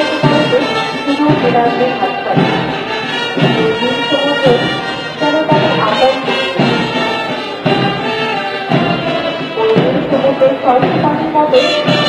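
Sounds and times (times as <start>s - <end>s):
march music: 0.0s - 12.0s.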